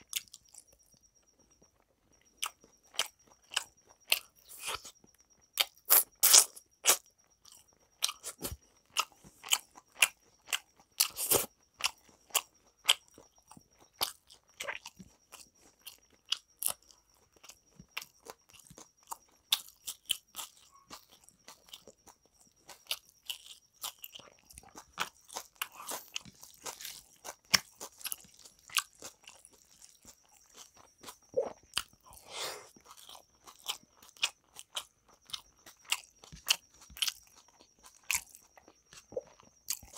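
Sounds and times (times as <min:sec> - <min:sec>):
chewing with wet mouth clicks: 0:00.0 - 0:39.9.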